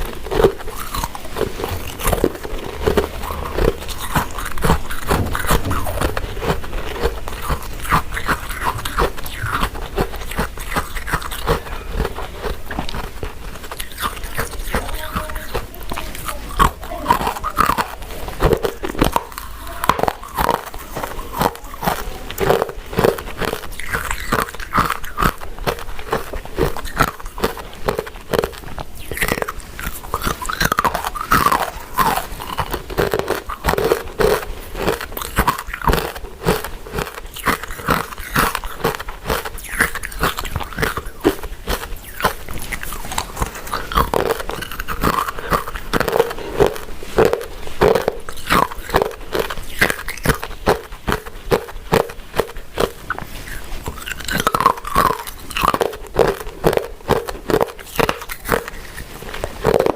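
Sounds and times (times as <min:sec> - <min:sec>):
chewing with mouth clicks: 0:00.0 - 0:59.9.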